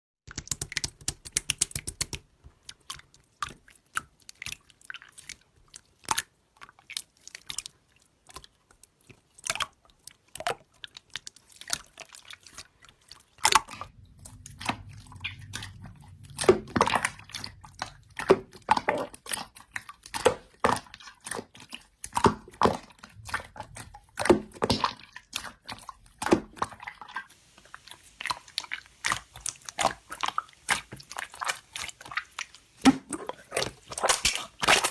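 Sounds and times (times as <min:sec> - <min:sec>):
slime squished by hand: 0:00.3 - 0:34.9.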